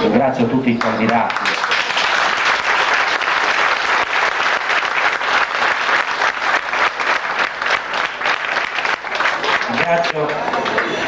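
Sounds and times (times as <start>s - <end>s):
crowd clapping: 0.7s - 11.0s.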